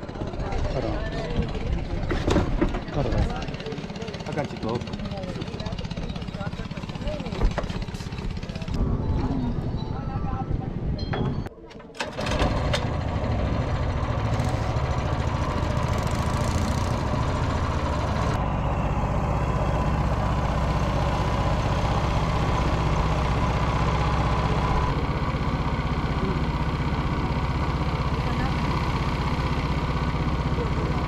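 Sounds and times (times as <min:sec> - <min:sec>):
engine running steadily: 0:00.0 - 0:08.8, 0:12.0 - 0:31.0.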